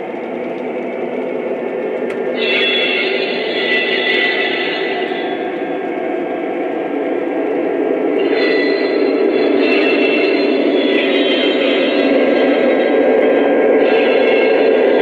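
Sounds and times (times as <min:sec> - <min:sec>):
high whine: 0:00.0 - 0:15.0
model train cars rumbling on track: 0:00.0 - 0:15.0.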